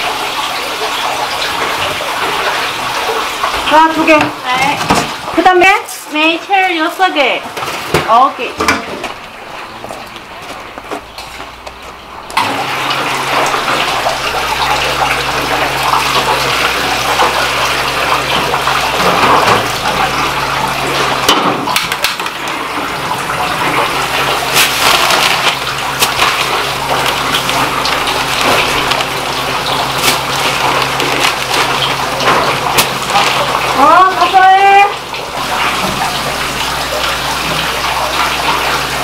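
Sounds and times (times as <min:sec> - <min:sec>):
water boiling: 0:00.0 - 0:39.0.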